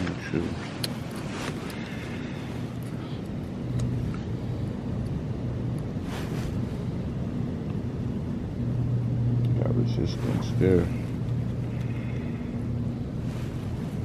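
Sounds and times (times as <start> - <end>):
car engine idling: 0.0 - 6.0, 6.6 - 14.0.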